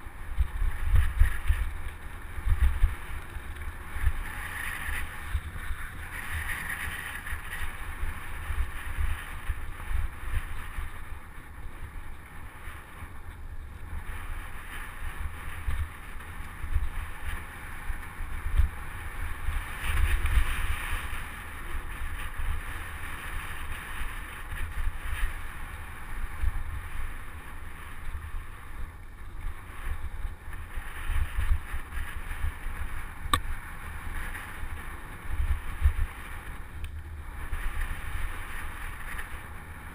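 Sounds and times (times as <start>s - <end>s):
bike tyres hissing on dirt: 0.0s - 39.9s
wind buffeting microphone: 0.0s - 39.9s.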